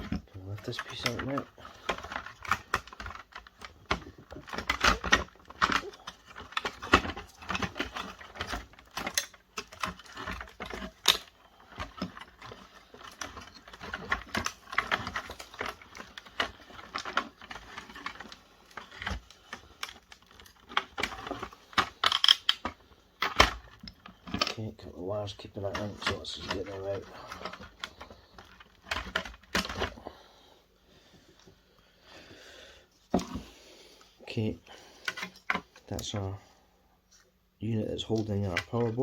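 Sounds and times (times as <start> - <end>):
plastic and metal parts clicking: 0.0 - 30.1, 35.0 - 36.4, 38.1 - 39.0.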